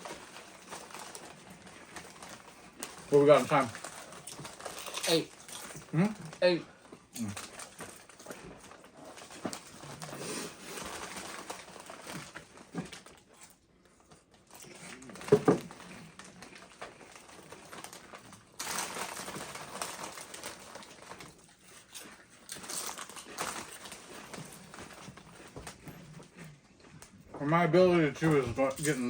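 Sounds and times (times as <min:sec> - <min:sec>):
chip bag crinkling: 0:00.0 - 0:26.4, 0:28.0 - 0:29.0
chips being chewed: 0:00.0 - 0:27.4, 0:28.1 - 0:29.0.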